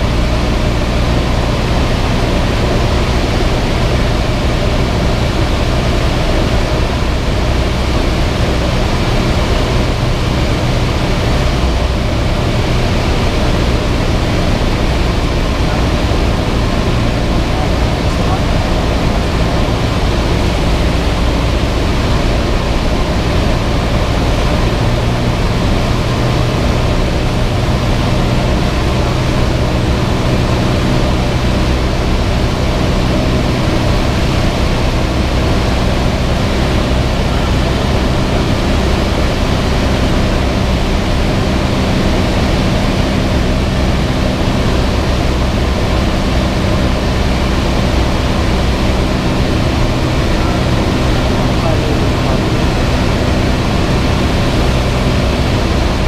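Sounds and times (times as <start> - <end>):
airplane engine and propeller: 0.0 - 56.0.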